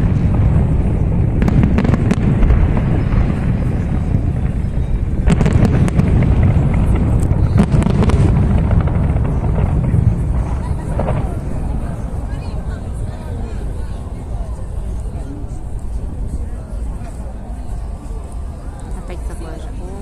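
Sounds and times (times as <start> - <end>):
fireworks bangs and crackles: 0.0 - 20.0
steady low rumble: 0.0 - 20.0.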